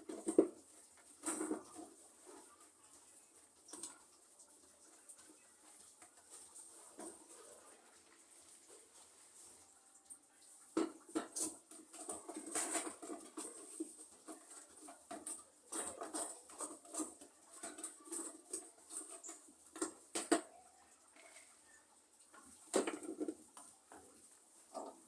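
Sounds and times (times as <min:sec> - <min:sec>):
light knocks of pots: 0:00.0 - 0:09.0, 0:10.5 - 0:25.0
rustling and scraping soil: 0:00.0 - 0:25.0.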